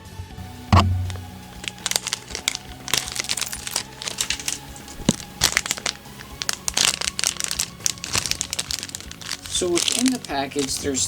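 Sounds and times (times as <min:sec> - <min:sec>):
sharp plastic crack: 0:00.5 - 0:11.0
plastic packaging crinkling and tearing: 0:00.8 - 0:11.0.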